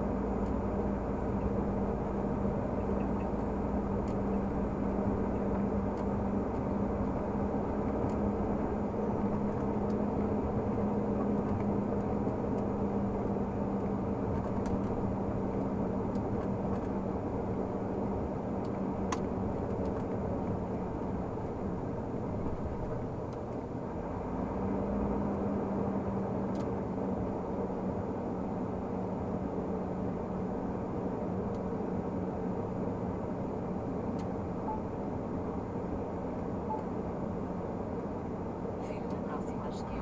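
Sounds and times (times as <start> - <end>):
road noise: 0.0 - 40.0.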